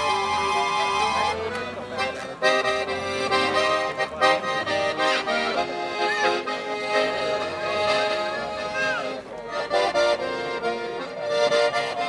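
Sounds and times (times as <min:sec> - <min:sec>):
accordion playing a tune: 0:00.0 - 0:12.0.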